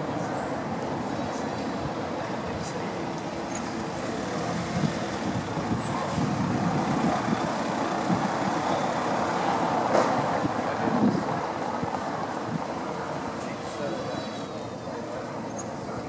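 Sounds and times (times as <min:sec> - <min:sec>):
car tyres on cobblestones: 0:01.4 - 0:16.0.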